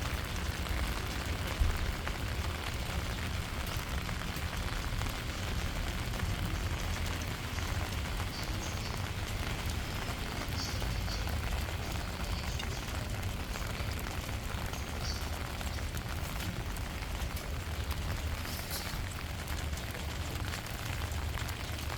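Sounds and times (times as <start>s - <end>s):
steady rain hiss: 0.0s - 21.9s.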